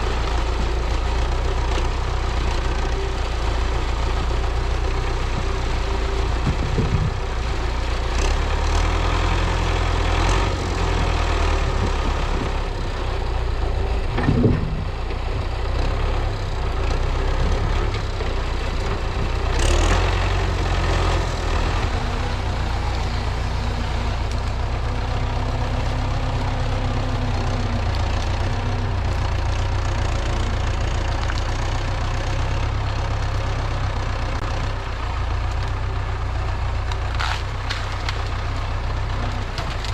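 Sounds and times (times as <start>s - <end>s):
tractor diesel engine rumbling: 0.0s - 39.9s.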